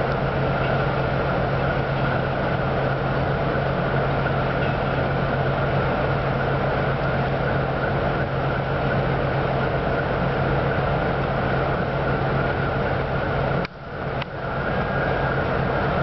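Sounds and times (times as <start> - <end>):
train equipment mechanical hum: 0.0 - 16.0.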